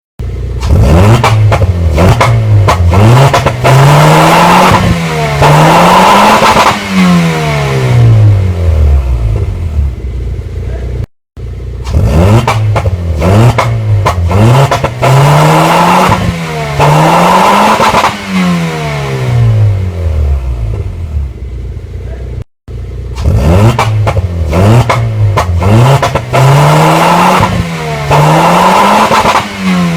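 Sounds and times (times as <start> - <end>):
car engine revving: 0.2 - 29.9.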